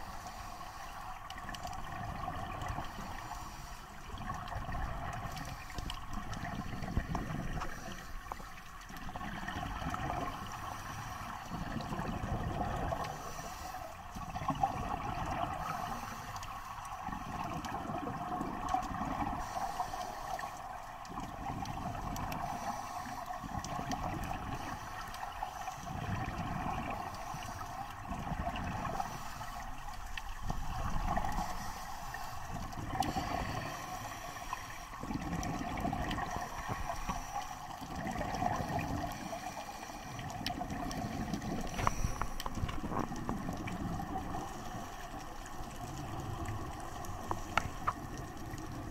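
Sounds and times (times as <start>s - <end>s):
scuba exhale bubbling: 0.0s - 48.9s
steady underwater hum: 0.0s - 48.9s.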